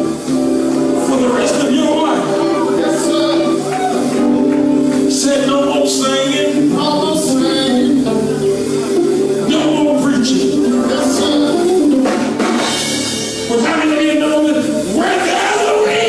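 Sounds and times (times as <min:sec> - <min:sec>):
sustained band chords: 0:00.0 - 0:16.0
singing voices: 0:00.6 - 0:16.0.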